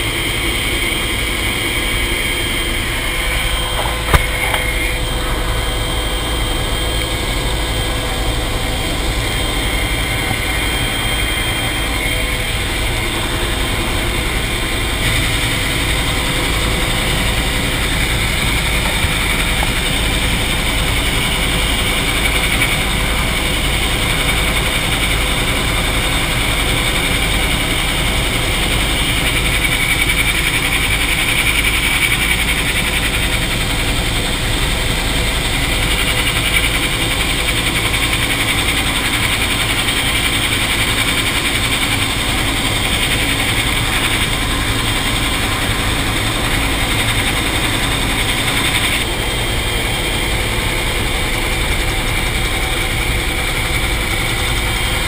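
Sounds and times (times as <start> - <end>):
faint high whine: 0.0 - 55.0
helicopter turbine and rotor noise: 0.0 - 55.0.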